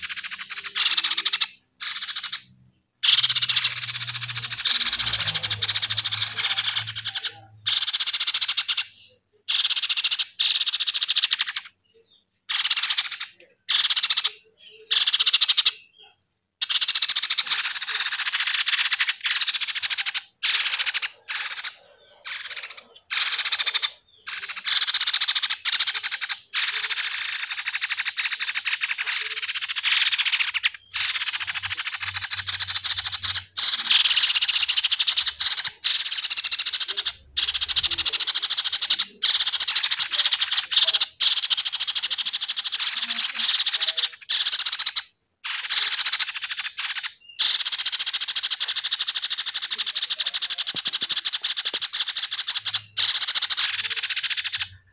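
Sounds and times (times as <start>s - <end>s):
nestling birds raspy begging calls: 0.0s - 11.8s, 12.5s - 54.9s.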